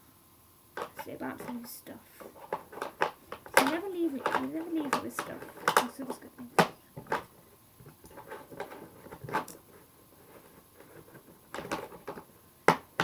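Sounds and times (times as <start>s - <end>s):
items knocking and rattling: 0.8s - 13.0s.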